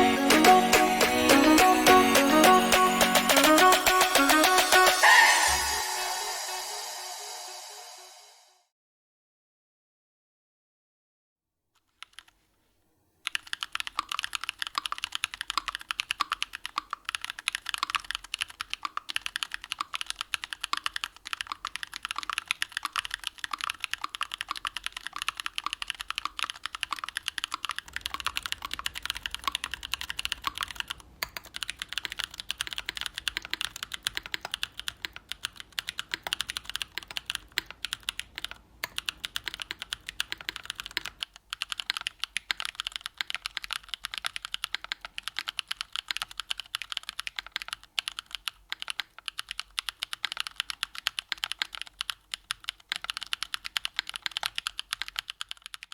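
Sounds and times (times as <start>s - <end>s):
mechanical keyboard typing: 0.0s - 5.0s, 11.9s - 12.3s, 13.2s - 55.9s.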